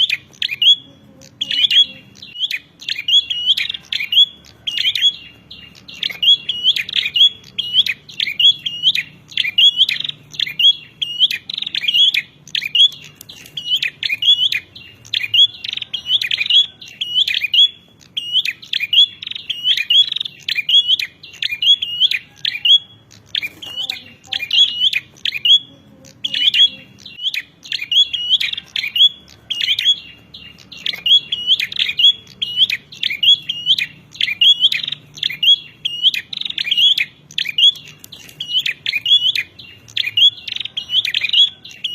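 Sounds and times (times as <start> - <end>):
bird chirping rapidly: 0.0 - 41.9.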